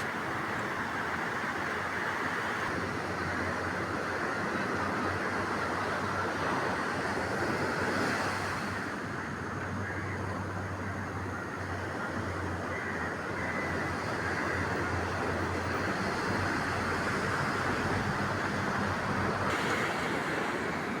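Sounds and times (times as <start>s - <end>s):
sea surf and wind rushing: 0.0s - 21.0s.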